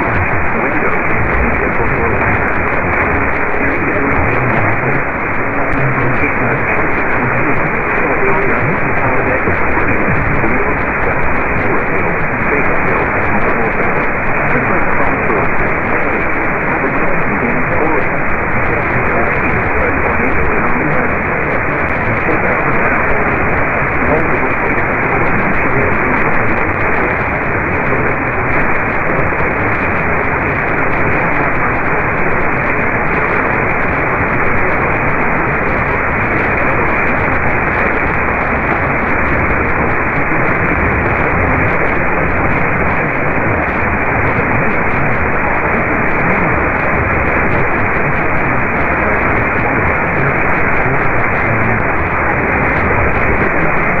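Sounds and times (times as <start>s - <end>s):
loud radio static hiss: 0.0s - 54.0s.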